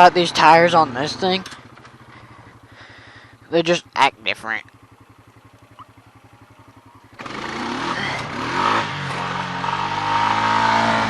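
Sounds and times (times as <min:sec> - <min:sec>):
engine idling and revving: 0:00.0 - 0:11.0.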